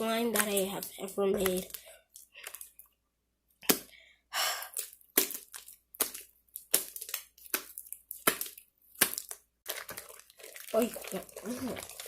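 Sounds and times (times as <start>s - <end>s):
slime popping and cracking: 0.0s - 2.8s, 3.5s - 3.9s, 4.7s - 12.0s.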